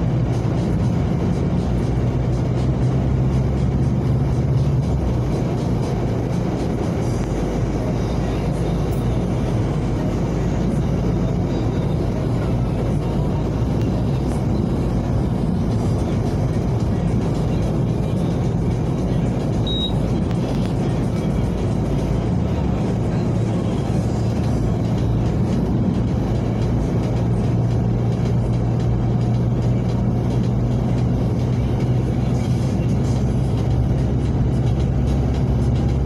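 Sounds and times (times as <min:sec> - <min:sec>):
car engine and road noise: 0:00.0 - 0:36.0
music playing: 0:00.0 - 0:36.0.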